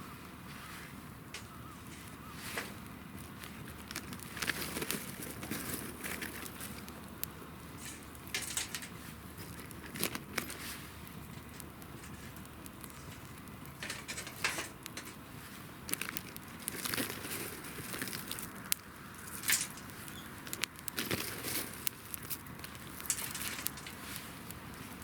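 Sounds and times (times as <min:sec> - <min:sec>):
campfire crackling and popping: 0:01.0 - 0:25.0.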